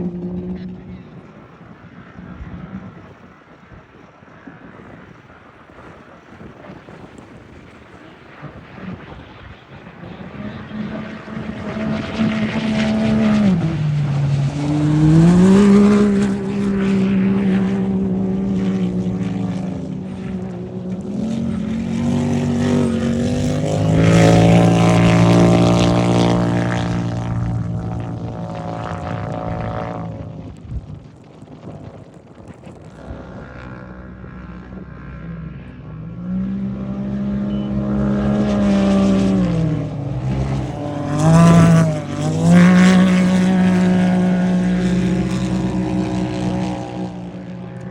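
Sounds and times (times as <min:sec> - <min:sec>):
off-road vehicle engines racing: 0:00.0 - 0:47.9.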